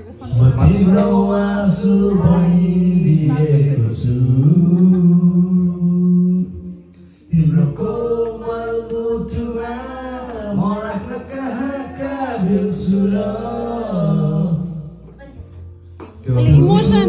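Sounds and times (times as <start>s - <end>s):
two men singing: 0.2s - 15.0s.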